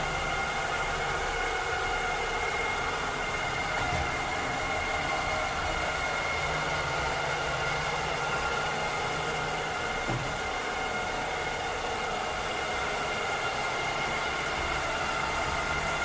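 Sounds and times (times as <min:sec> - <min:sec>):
robotic cleaner motor whine: 0:00.0 - 0:16.0.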